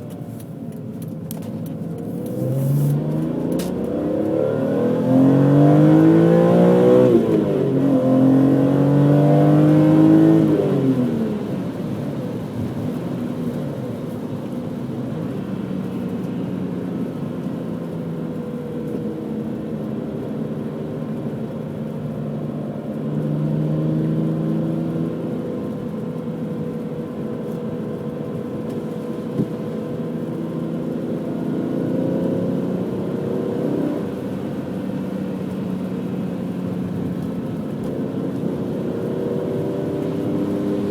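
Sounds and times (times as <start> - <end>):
car engine accelerating hard: 1.1 - 40.9.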